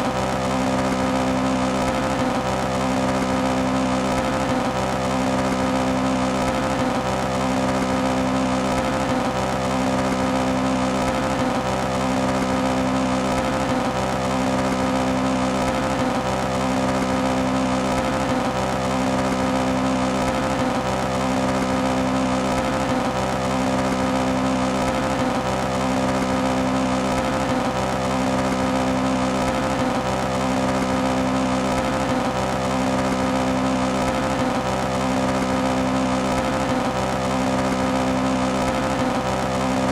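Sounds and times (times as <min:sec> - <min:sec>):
engine misfiring at high revs: 0:00.0 - 0:39.9.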